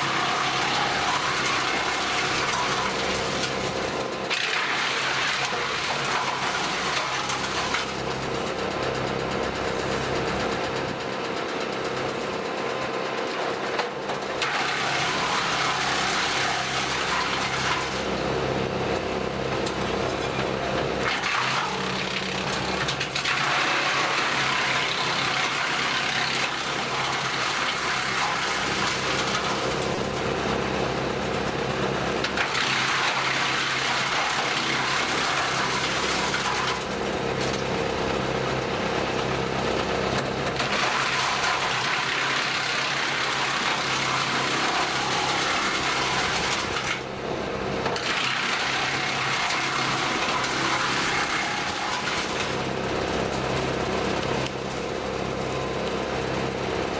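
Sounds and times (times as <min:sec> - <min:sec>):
wood chipper humming: 0:00.0 - 0:56.9.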